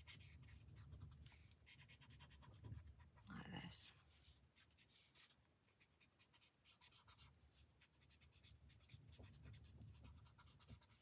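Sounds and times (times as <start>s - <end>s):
marker scratching on paper: 0.0s - 11.0s.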